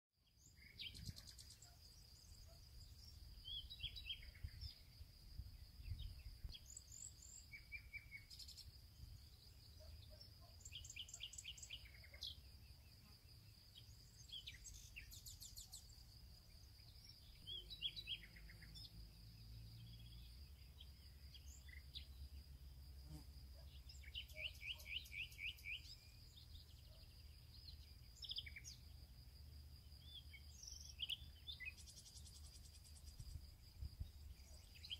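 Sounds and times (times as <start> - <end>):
songbirds chirping and trilling: 0.2 - 34.9.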